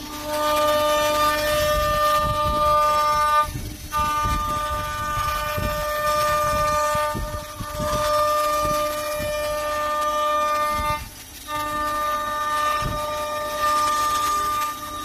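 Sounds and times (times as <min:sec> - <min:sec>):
low grinding of wood: 0:00.0 - 0:15.0
spindle high whine: 0:00.0 - 0:15.0.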